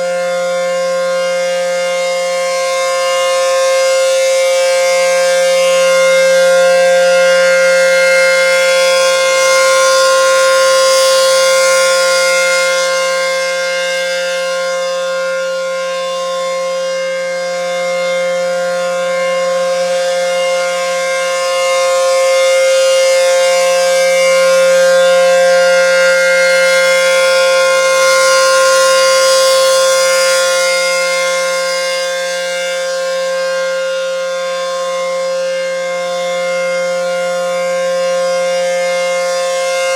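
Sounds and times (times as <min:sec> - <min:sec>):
outdoor warning siren steady pitch: 0:00.0 - 0:39.9.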